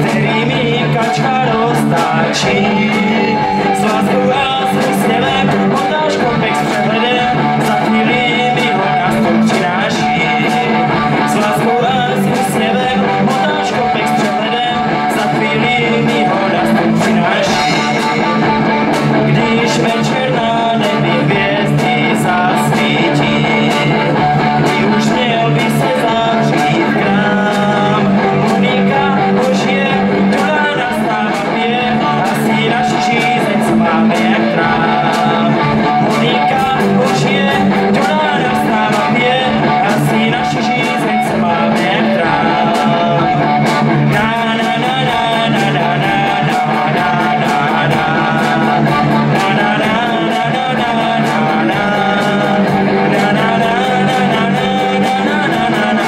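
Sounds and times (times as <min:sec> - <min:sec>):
electric guitars: 0:00.0 - 0:56.0
man singing: 0:00.0 - 0:56.0
steady drum beat: 0:00.0 - 0:56.0.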